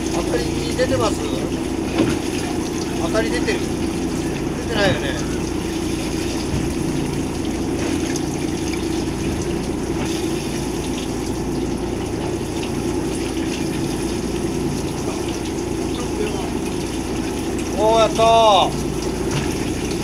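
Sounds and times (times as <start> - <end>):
boat engine hum: 0.0 - 20.0
water rushing and splashing: 0.0 - 20.0.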